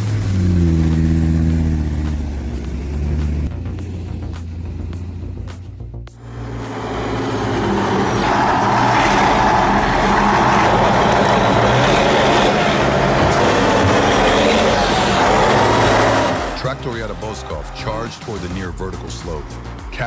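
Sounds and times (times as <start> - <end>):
vehicle engine running under load: 0.0 - 19.9.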